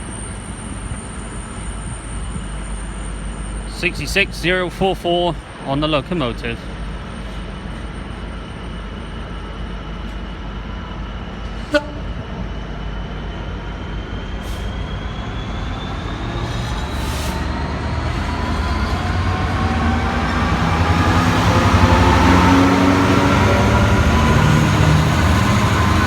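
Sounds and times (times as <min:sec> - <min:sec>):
diesel freight train rumbling: 0:00.0 - 0:26.0.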